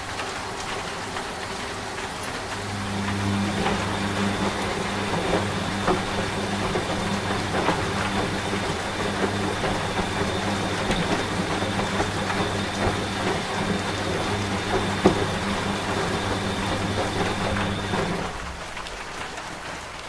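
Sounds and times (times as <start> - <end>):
steady rain: 0.0 - 20.0
washing machine humming: 0.0 - 20.0.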